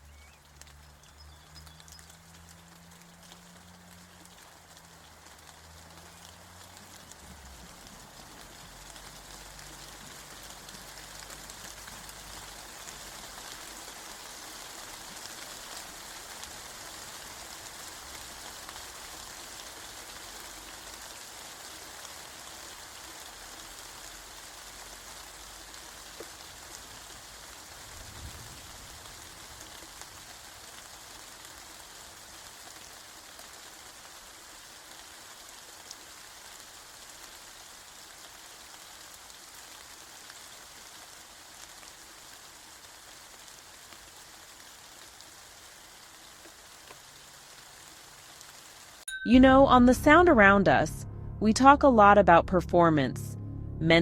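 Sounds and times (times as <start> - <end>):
steady rain falling: 0.0 - 49.1.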